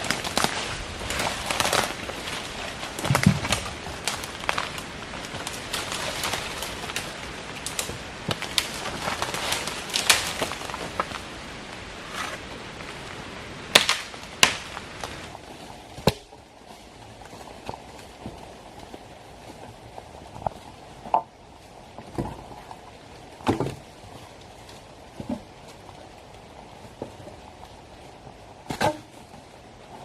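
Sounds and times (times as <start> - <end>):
dry leaves and twigs rustling: 0.0 - 30.0.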